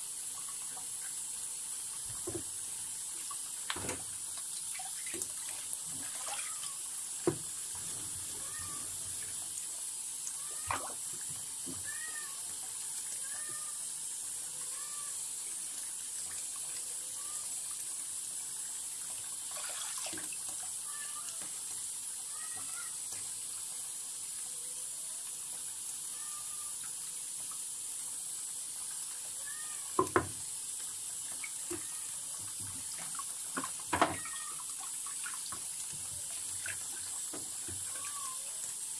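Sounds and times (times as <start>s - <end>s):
tap water running into sink: 0.0s - 38.9s.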